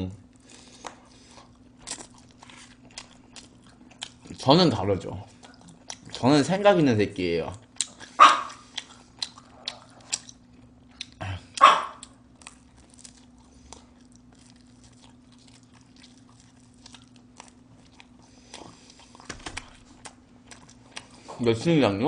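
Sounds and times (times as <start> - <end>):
faint steady hum: 0.0 - 22.0
person chewing food: 0.2 - 6.2, 7.6 - 21.5.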